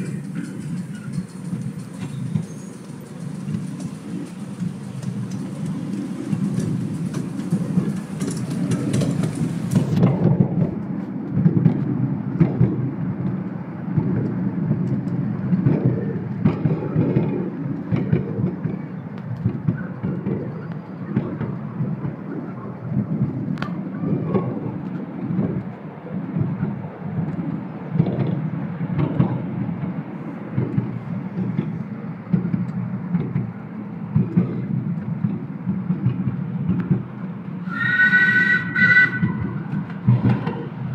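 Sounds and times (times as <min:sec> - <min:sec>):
clicks and knocks of train: 0:00.0 - 0:40.9
wheels rumbling on rails: 0:00.0 - 0:40.9.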